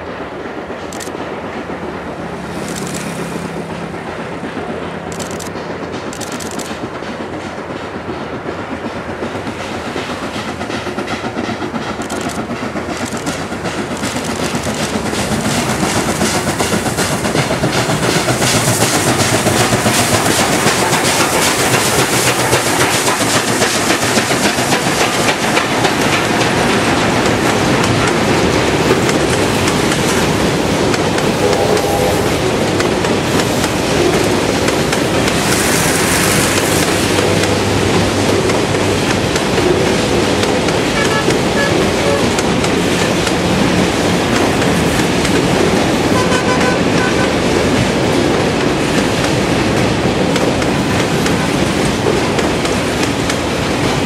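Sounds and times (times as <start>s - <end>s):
wheels clacking over rail joints: 0.0s - 54.0s
steam locomotive exhaust: 1.8s - 54.0s.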